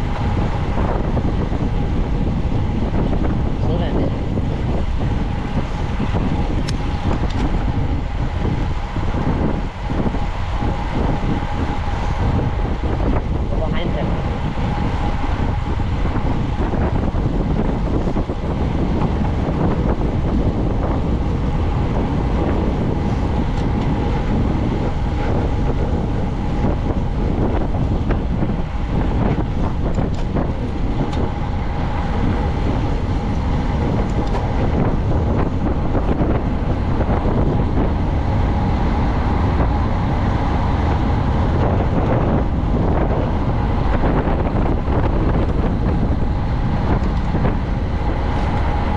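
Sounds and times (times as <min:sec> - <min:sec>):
bicycle tyres rolling: 0:00.0 - 0:48.9
wind rushing over microphone: 0:00.0 - 0:48.9.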